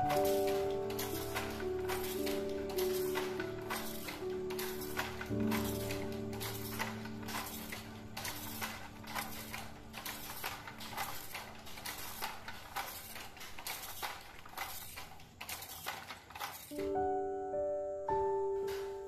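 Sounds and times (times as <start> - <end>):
wooden handloom clacking: 0.0 - 17.0, 18.6 - 19.0.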